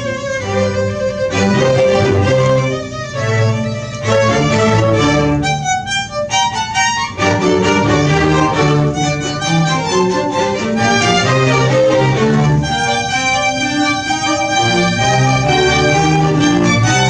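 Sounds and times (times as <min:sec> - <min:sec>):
string ensemble playing baroque music: 0:00.0 - 0:17.0.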